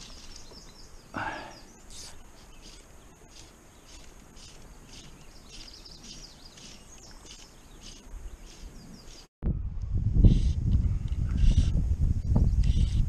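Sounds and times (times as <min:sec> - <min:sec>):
birds chirping and singing: 0:00.0 - 0:13.0
riverside ambience: 0:00.0 - 0:13.0.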